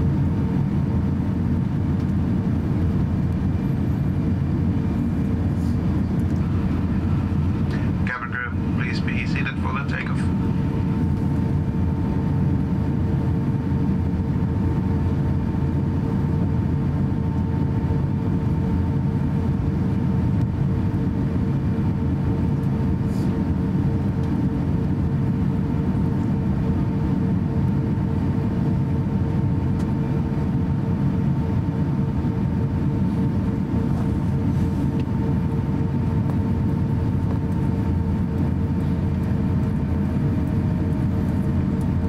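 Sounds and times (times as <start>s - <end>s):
airplane cabin rumble: 0.0s - 42.0s
constant hum tone: 0.0s - 42.0s.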